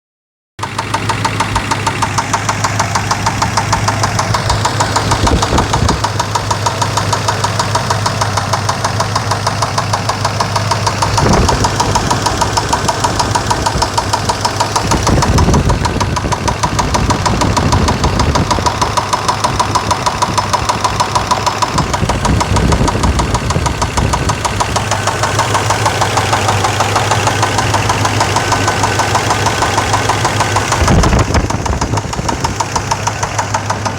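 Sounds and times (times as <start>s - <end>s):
engine idling: 0.6s - 33.9s
rapid engine knocking: 0.6s - 33.9s.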